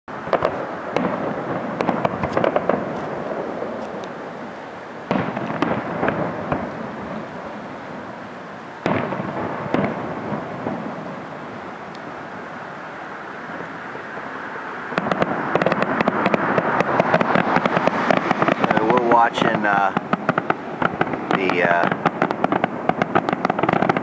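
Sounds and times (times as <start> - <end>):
rolling rumble: 0.1 - 24.0
fireworks bangs and crackles: 0.2 - 12.0, 13.5 - 24.0.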